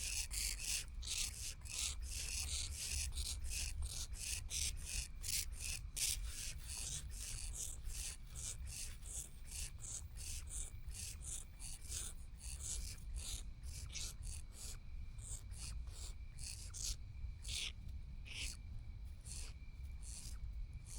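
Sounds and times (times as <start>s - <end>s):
owl chicks hissing begging calls: 0.0s - 17.7s, 18.3s - 18.6s, 19.3s - 20.4s.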